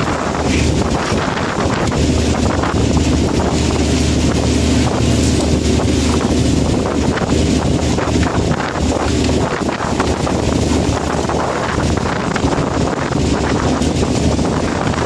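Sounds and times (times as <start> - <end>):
boat engine humming: 0.0 - 15.0
wind buffeting microphone: 0.0 - 15.0.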